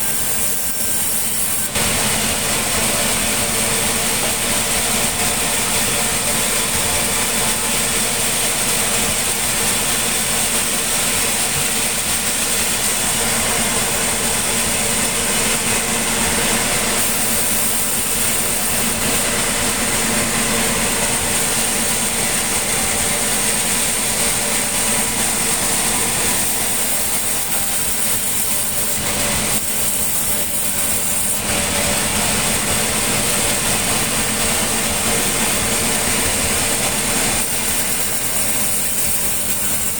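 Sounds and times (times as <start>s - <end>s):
sawmill machinery whining: 0.0s - 39.9s.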